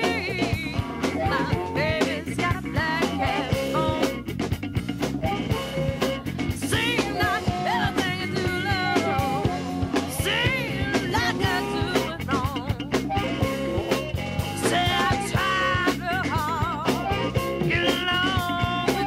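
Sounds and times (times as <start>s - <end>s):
drum kit beat: 0.0s - 19.0s
guitar: 0.0s - 19.0s.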